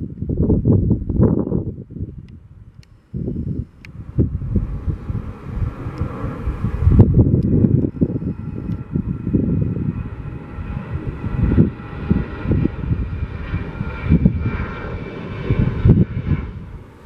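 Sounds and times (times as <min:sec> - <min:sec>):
jet engines whining: 0:02.7 - 0:17.0.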